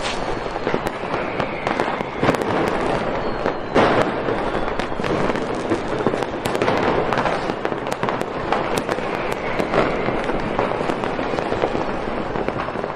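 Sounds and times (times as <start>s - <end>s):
fireworks crackling and banging: 0.0s - 12.9s.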